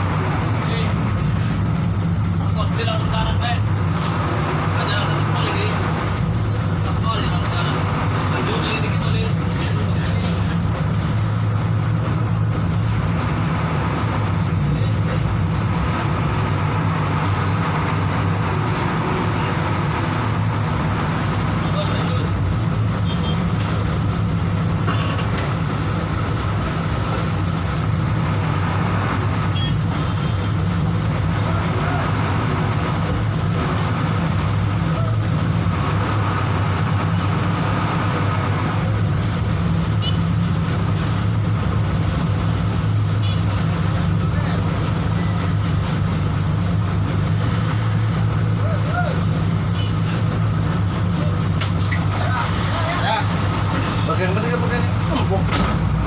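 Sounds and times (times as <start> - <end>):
bus engine running: 0.0 - 56.0
road and tyre noise: 0.0 - 56.0.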